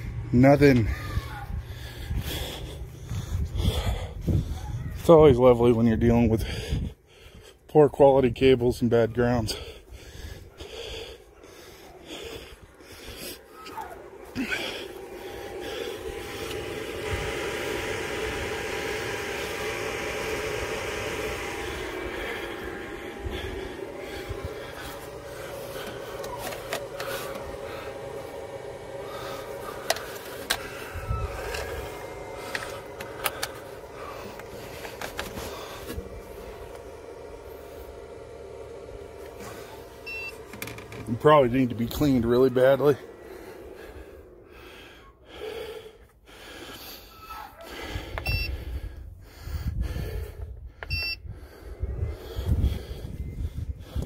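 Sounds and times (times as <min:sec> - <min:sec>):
low rumbling: 0:00.0 - 0:07.6, 0:08.2 - 0:54.0
steady hum: 0:00.0 - 0:54.0.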